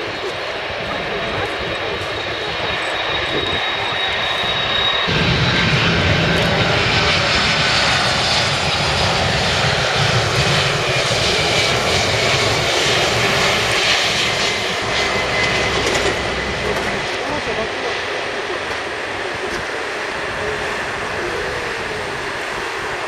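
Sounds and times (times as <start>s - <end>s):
deep rumble of low aircraft: 0.0s - 23.0s
jet engines roaring: 0.0s - 23.0s.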